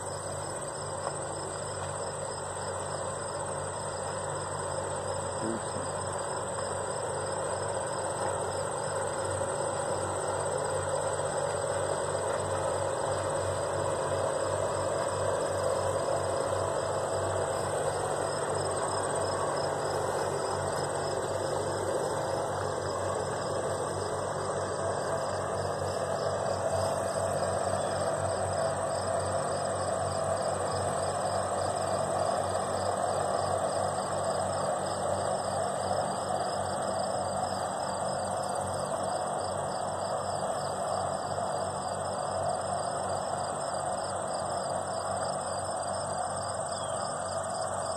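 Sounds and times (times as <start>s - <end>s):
boat engines droning: 0.0s - 47.9s
high insect trill: 0.0s - 47.9s
rapidly pulsing insect call: 0.0s - 47.9s.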